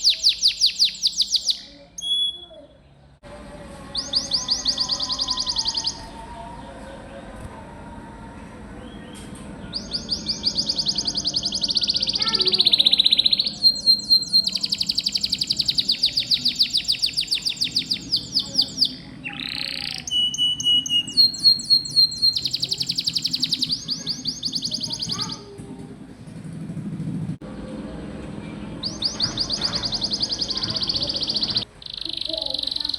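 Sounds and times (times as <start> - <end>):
canary singing trills: 0.0 - 3.2, 3.9 - 7.2, 8.8 - 25.5, 28.5 - 32.9.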